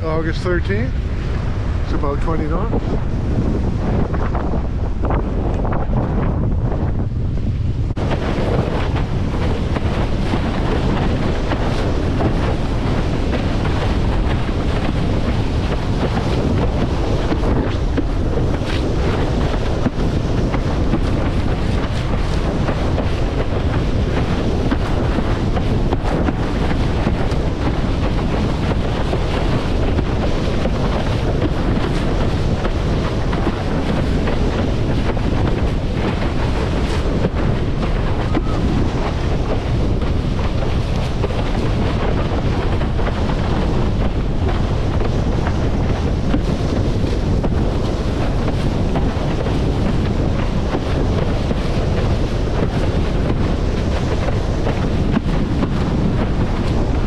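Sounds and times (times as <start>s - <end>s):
water rushing past board: 0.0s - 57.0s
wind buffeting microphone: 0.0s - 57.0s.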